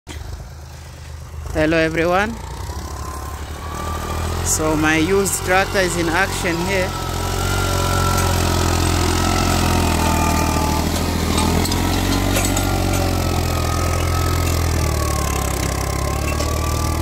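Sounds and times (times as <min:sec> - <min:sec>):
tractor engine running under load: 0:00.1 - 0:17.0.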